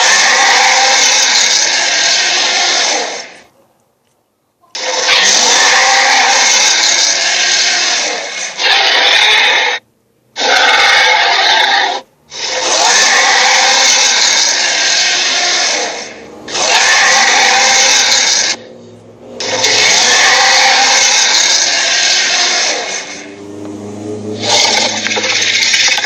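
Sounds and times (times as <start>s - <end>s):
harsh rasping noise: 0.0s - 3.5s, 4.8s - 9.8s, 10.4s - 26.0s.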